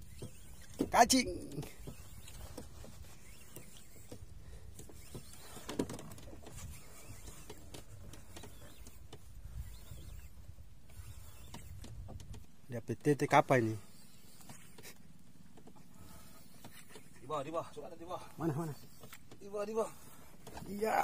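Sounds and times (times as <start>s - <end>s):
fishing reel clicks and scratches: 0.0s - 15.0s, 16.1s - 21.0s.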